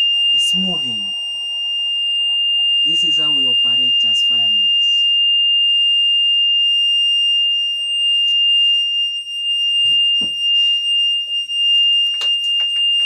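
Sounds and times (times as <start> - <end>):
high-pitched warning buzzer: 0.0 - 13.0.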